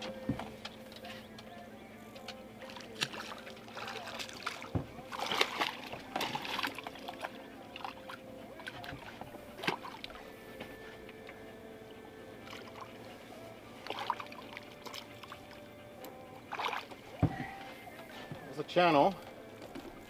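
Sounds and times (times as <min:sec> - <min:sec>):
water splashing by boat: 0:00.0 - 0:20.0.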